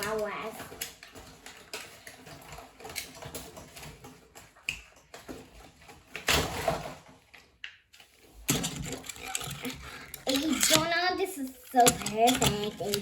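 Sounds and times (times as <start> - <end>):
plastic packaging clicks and crackles: 0.0 - 11.0.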